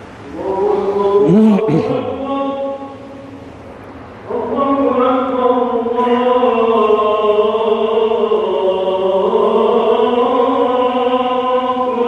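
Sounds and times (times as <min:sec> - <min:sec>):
man chanting call to prayer: 0:00.3 - 0:03.0, 0:04.3 - 0:12.0.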